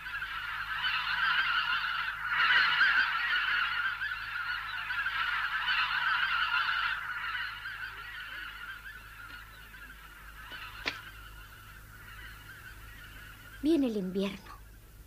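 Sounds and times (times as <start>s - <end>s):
geese honking in flight: 0.0s - 15.0s.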